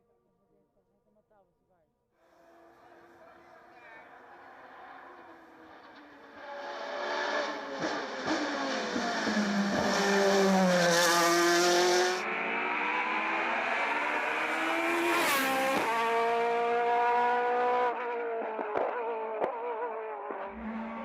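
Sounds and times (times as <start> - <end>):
race car engine driven hard: 2.4 - 21.0.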